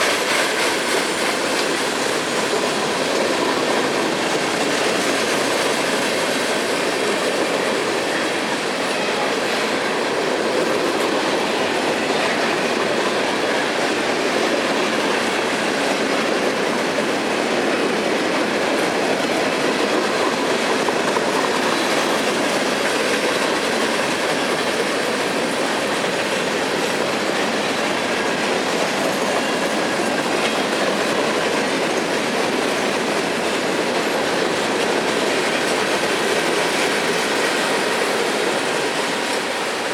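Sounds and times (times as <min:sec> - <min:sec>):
steel wheels on rail: 0:00.0 - 0:39.9.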